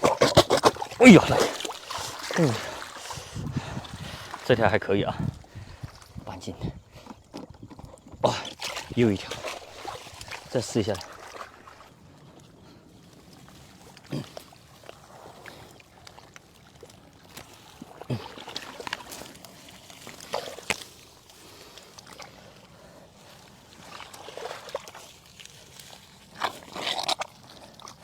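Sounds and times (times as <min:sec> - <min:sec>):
sharp water splashes: 0:00.0 - 0:05.0, 0:08.3 - 0:12.1, 0:13.3 - 0:22.6, 0:23.3 - 0:28.0
sloshing in muddy water: 0:00.0 - 0:28.0.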